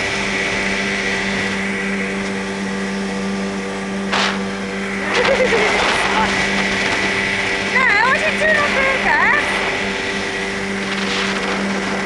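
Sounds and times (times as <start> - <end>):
rushing wind and water: 0.0 - 12.0
speedboat engine running: 0.0 - 12.0.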